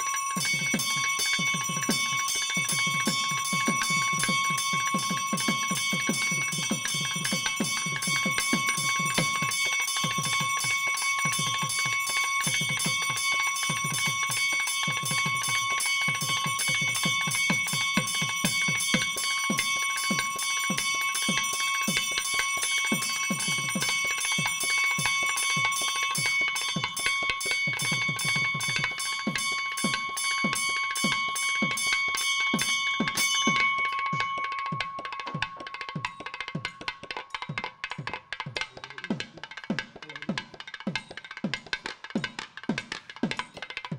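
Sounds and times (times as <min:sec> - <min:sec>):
bell ringing rapidly: 0:00.0 - 0:43.9.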